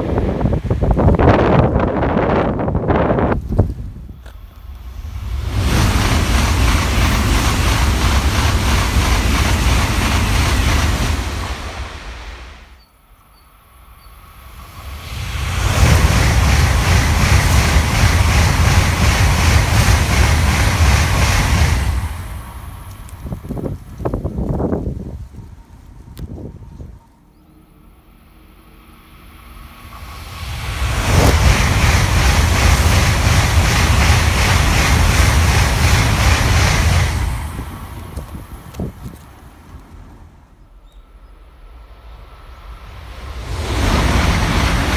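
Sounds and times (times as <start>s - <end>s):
bullet train passing at speed: 0.0s - 44.9s.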